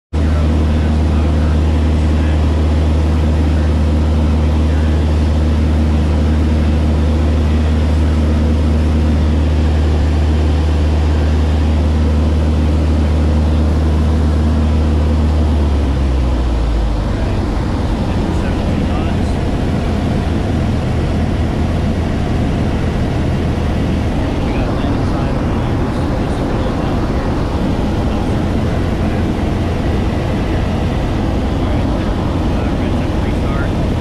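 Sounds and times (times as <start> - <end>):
aircraft engine and propeller drone: 0.1 - 34.0.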